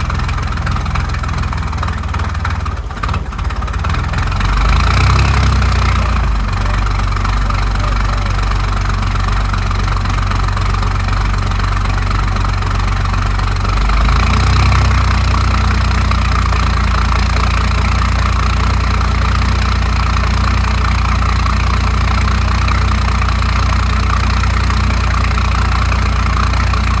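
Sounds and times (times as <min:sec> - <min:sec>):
diesel engine clatter: 0:00.0 - 0:27.0.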